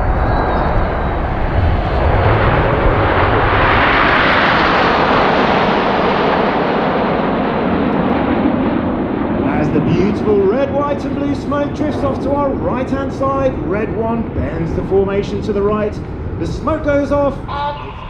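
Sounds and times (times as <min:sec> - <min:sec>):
jet aircraft low pass: 0:00.0 - 0:18.0.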